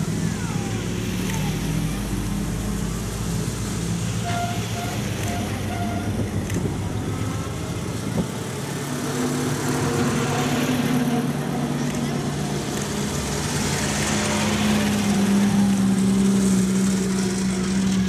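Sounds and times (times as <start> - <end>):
cars driving slowly past: 0.0 - 18.0
tyres on road: 0.0 - 18.0.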